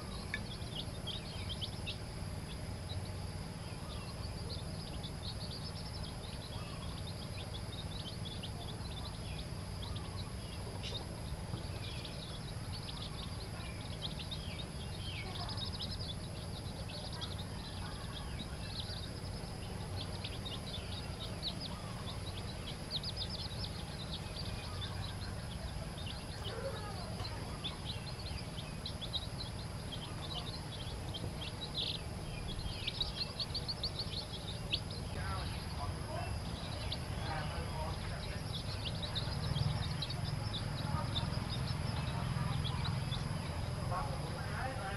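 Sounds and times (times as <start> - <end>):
chicks peeping: 0.0 - 44.9
steady low hum: 0.0 - 44.9.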